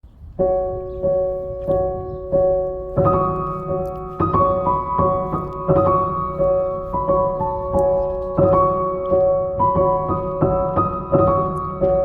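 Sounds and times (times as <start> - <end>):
piano notes and chords: 0.1 - 12.0.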